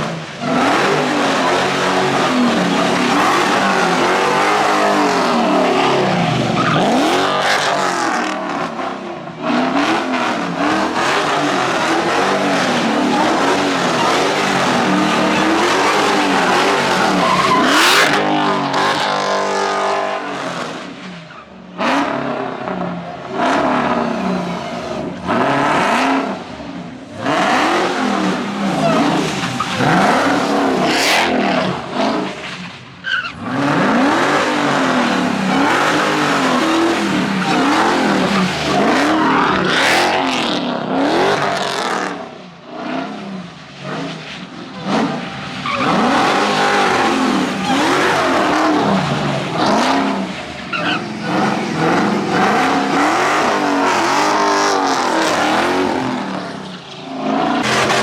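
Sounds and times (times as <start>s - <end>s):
car engine revving: 0.0s - 58.0s
tyres skidding on pavement: 0.0s - 58.0s.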